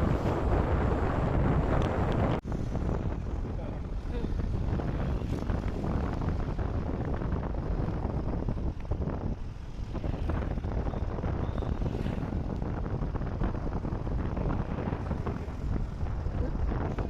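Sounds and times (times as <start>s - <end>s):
vehicle road and engine rumble: 0.0s - 17.0s
wind buffeting microphone: 0.0s - 17.0s.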